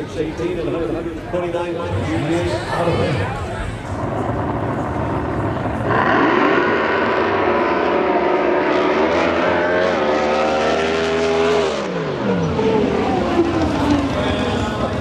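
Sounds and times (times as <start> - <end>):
racing boat engine at full throttle: 0.0 - 15.0.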